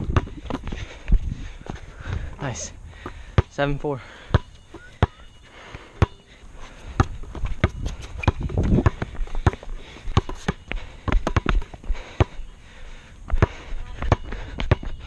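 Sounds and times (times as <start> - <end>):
basketball bouncing on asphalt: 0.0 - 2.3, 3.0 - 12.5, 13.2 - 15.0.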